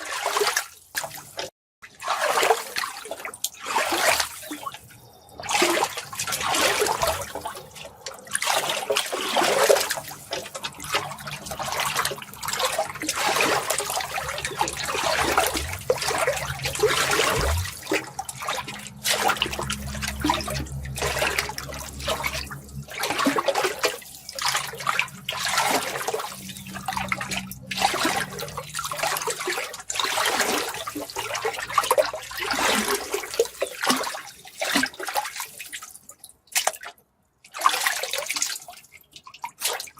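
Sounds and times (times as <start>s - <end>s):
water splashing and gushing: 0.0s - 39.9s.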